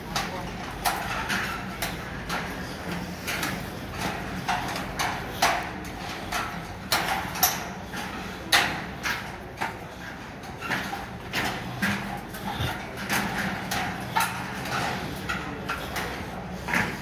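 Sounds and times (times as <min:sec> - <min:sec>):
footsteps on steel decking: 0:00.0 - 0:17.0.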